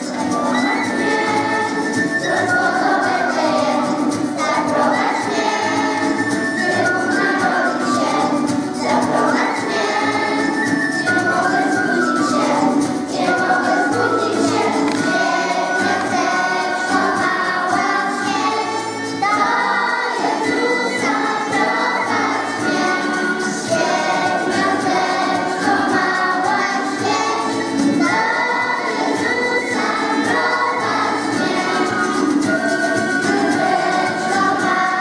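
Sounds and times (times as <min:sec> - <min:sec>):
children's choir singing a carol: 0:00.0 - 0:35.0
musical accompaniment: 0:00.0 - 0:35.0.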